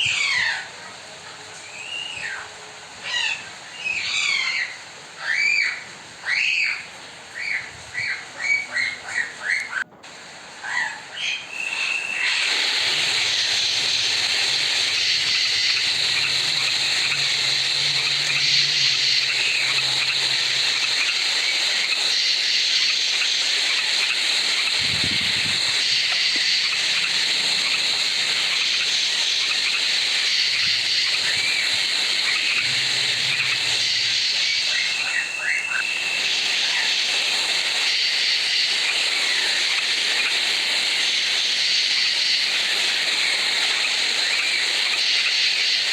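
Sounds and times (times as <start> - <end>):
steady ambient hiss: 0.0 - 45.9.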